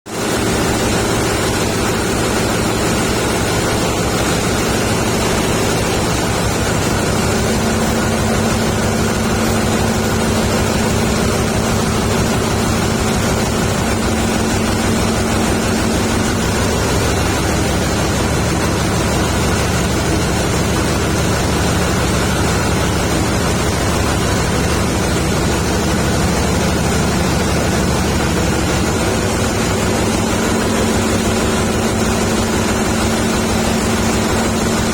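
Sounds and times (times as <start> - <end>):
generator engine rumbling: 0.1 - 34.9.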